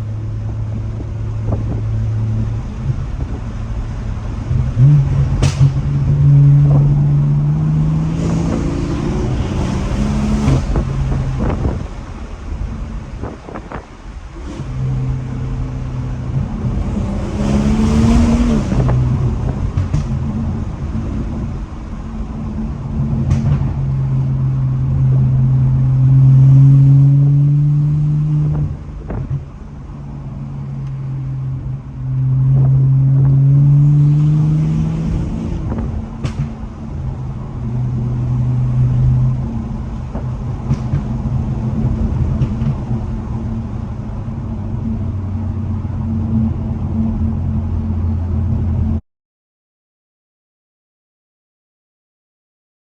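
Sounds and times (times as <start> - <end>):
car engine accelerating hard: 0.0 - 49.0
exhaust pops: 0.5 - 26.2, 28.2 - 47.3.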